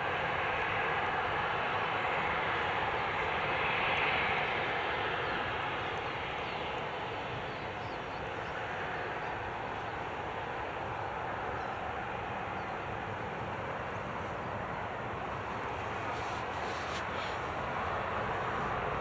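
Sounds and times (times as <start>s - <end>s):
jet airliner engine roar: 0.0s - 19.0s.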